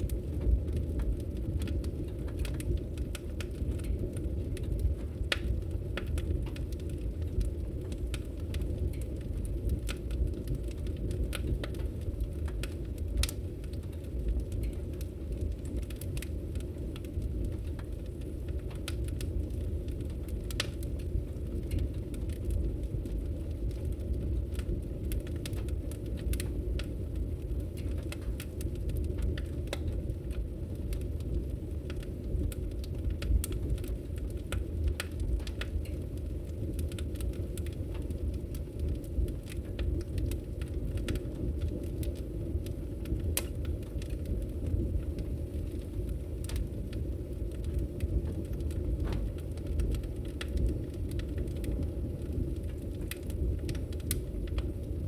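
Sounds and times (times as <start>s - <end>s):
fire rumbling: 0.0s - 55.0s
wood crackling and popping: 0.0s - 55.0s.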